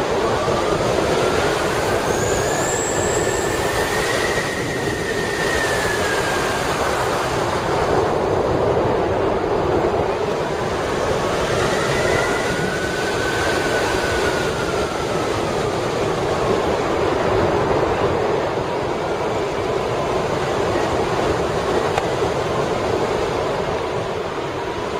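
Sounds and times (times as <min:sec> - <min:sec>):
wind rushing over microphone: 0:00.0 - 0:24.9.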